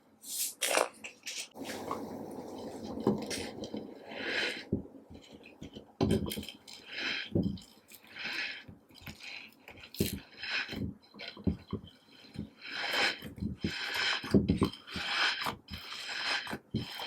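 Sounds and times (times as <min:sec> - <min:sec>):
slime squelching: 0:00.6 - 0:17.0.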